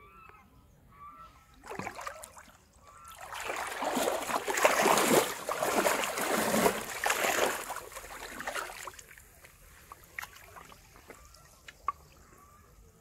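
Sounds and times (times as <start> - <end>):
water splashing around wading legs: 1.6 - 12.2.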